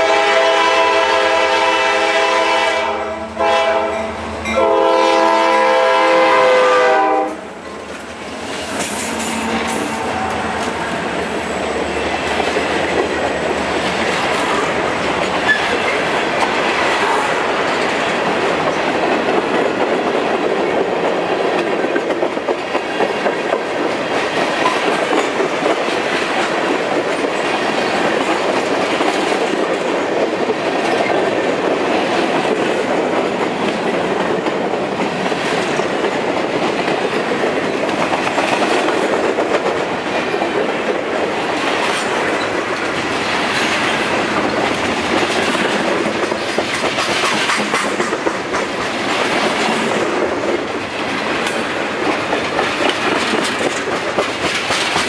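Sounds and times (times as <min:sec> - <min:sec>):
freight train rumbling past: 0:00.0 - 0:55.0
wheels clacking over rail joints: 0:07.6 - 0:55.0.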